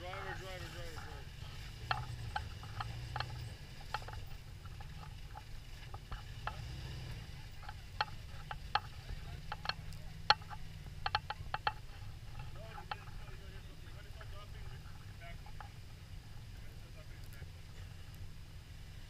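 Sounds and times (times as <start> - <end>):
sharp irregular clicks: 0.0 - 18.3
truck engine running low: 0.0 - 19.0.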